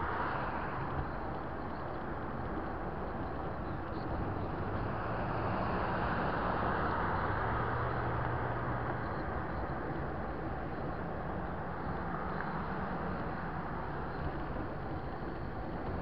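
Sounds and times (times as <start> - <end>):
road and air noise: 0.0 - 16.0
truck engine and tyre noise: 0.0 - 16.0.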